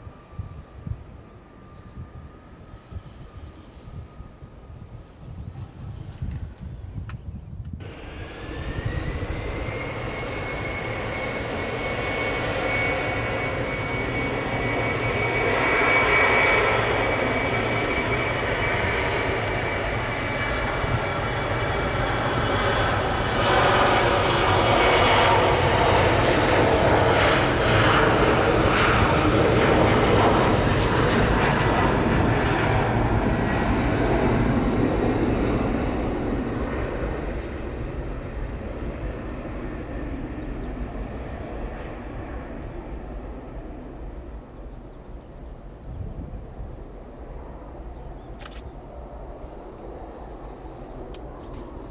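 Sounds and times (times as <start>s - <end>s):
broad jet noise: 0.0s - 51.9s
jet engine whine: 0.0s - 51.9s.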